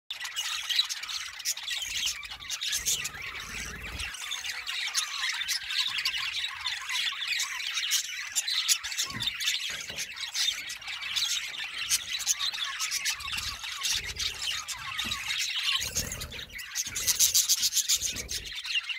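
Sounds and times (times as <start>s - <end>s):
budgerigars chattering and chirping: 0.1s - 18.9s.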